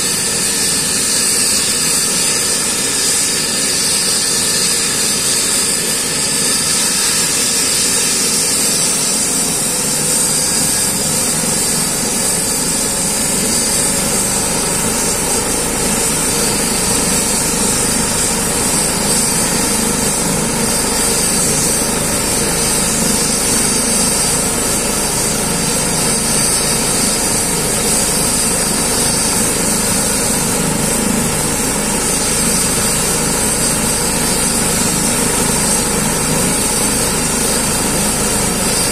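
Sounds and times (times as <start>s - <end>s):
helicopter rotor rumble: 0.0s - 38.9s
helicopter turbine whine: 0.0s - 38.9s.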